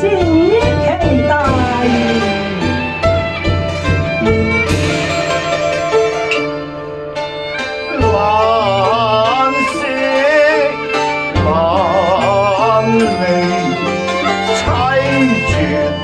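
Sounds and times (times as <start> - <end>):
bowed string melody with vibrato: 0.0 - 16.0
steady lower musical backing: 0.0 - 16.0.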